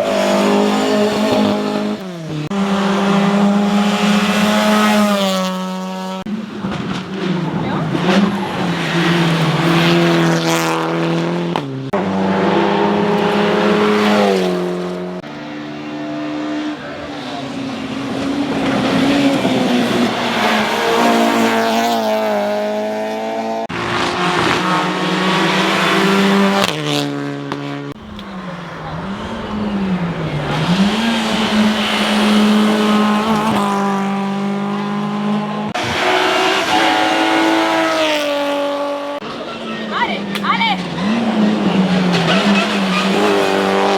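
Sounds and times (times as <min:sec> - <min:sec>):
race car engines accelerating: 0:00.0 - 0:43.9.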